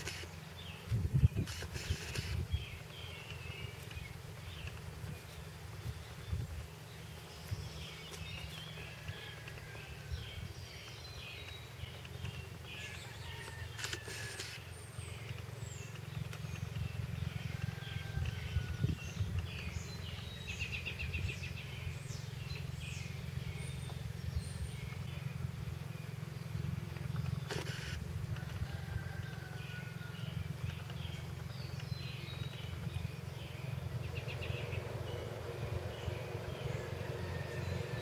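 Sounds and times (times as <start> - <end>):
birds chirping: 0.0 - 38.0
steady low rumble: 0.0 - 38.0.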